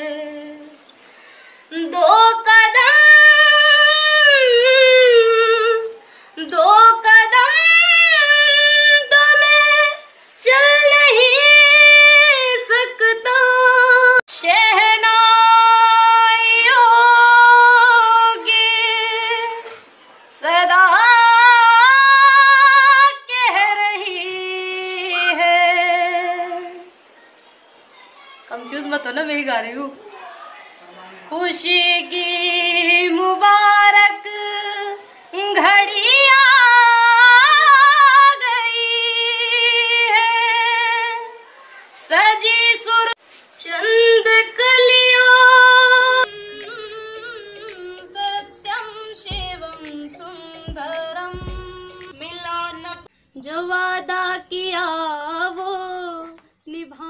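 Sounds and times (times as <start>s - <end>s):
woman singing unaccompanied: 0.0s - 1.0s, 1.6s - 27.0s, 31.3s - 57.0s.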